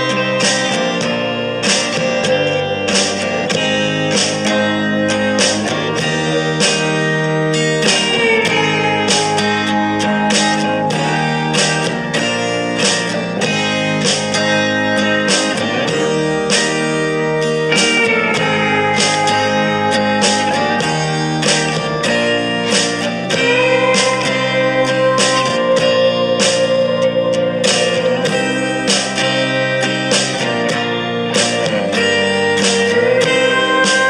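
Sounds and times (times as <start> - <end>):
plucked guitar music: 0.0 - 34.0.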